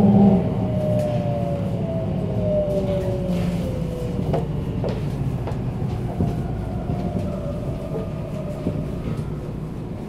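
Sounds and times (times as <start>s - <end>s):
subway car rumble: 0.0s - 10.0s.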